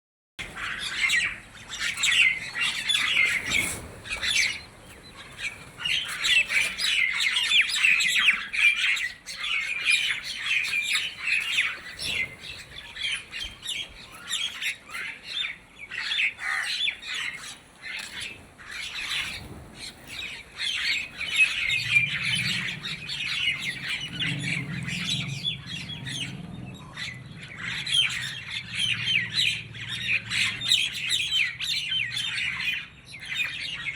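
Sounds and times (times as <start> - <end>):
flock of birds squawking: 0.4 - 33.9.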